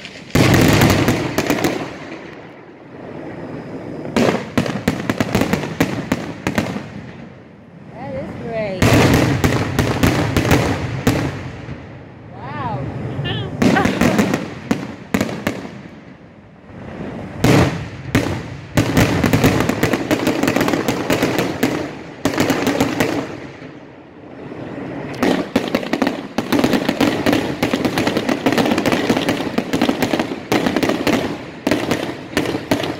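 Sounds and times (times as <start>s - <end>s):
firework shells booming: 0.0s - 2.6s, 4.1s - 7.5s, 8.8s - 12.0s, 13.6s - 16.4s, 17.3s - 24.0s, 25.0s - 32.9s
rapid crackling firework bangs: 0.0s - 3.2s, 4.1s - 7.4s, 8.4s - 12.0s, 13.5s - 32.9s.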